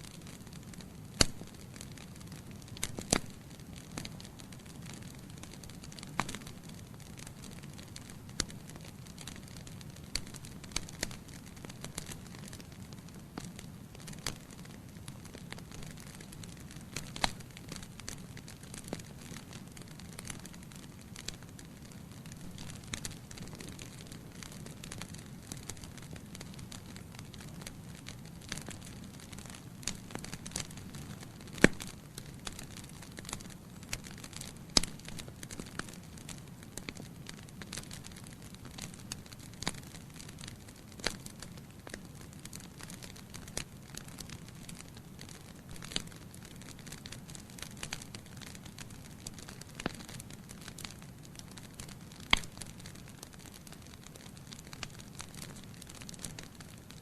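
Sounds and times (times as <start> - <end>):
loud pops from burning logs: 0.0 - 57.0
wood fire crackling: 0.0 - 57.0.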